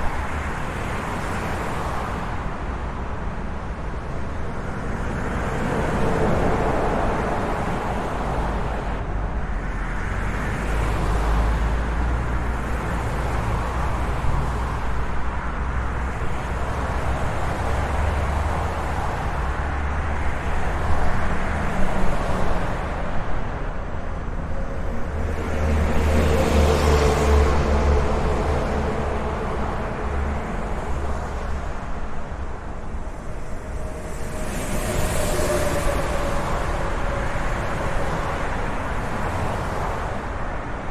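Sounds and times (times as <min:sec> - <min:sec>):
cars passing: 0:00.0 - 0:40.9.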